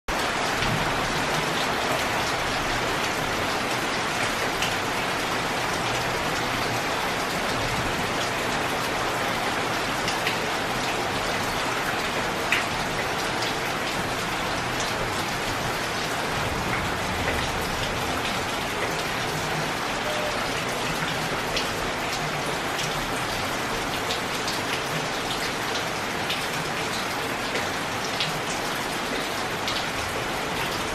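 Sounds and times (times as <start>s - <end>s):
rain falling on roofs: 0.1s - 30.9s.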